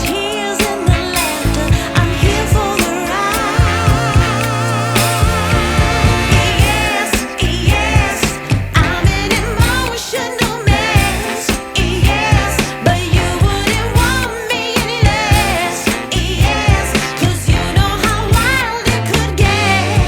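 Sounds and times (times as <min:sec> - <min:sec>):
person singing over a beat: 0:00.0 - 0:20.0.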